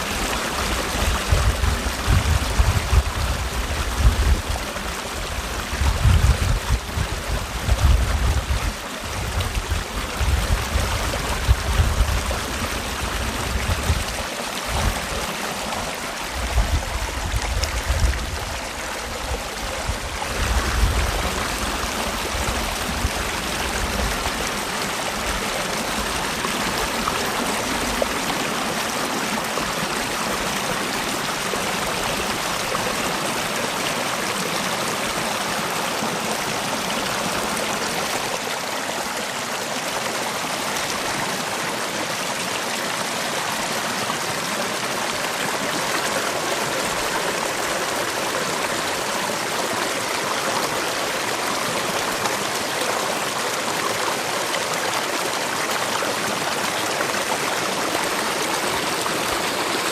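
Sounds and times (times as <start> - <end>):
stream water rushing and gurgling: 0.0 - 59.9.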